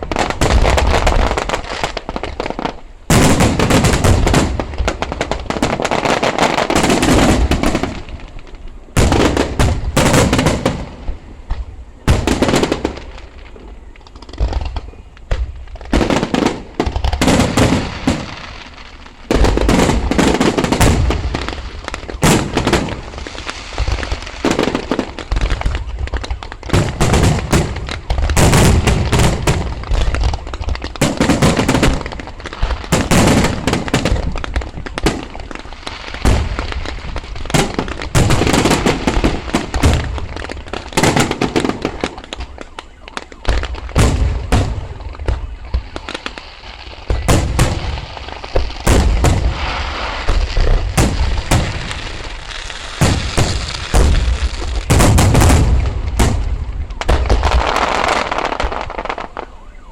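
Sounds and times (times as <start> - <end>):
fireworks bangs and bursts: 0.0 - 59.9.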